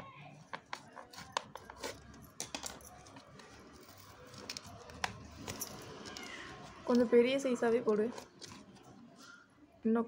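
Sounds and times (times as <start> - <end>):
tape clicking and crinkling: 0.4 - 7.1, 7.7 - 9.4.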